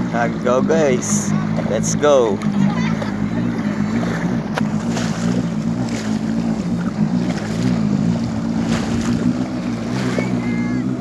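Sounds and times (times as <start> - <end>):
jet ski engine running: 0.0 - 11.0
water rushing: 0.0 - 11.0.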